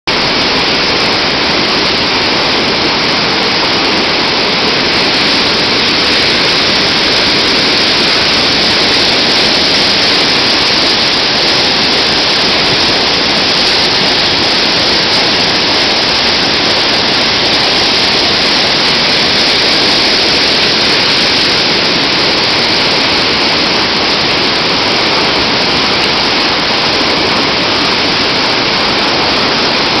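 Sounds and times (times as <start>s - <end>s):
river rushing through rapids: 0.1s - 30.0s.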